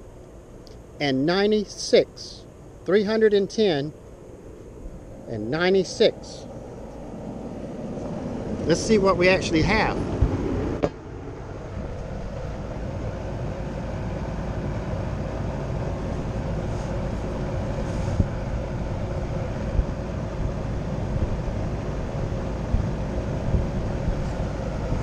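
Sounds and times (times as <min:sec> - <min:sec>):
heat pump humming: 0:00.0 - 0:25.0.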